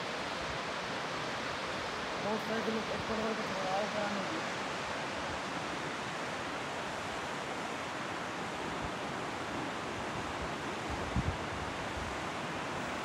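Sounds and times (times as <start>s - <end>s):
river rapids rushing over boulders: 0.0s - 13.0s.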